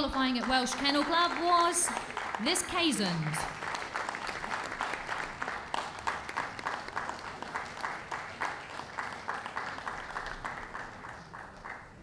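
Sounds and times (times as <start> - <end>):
audience clapping in rhythm: 0.0 - 12.0.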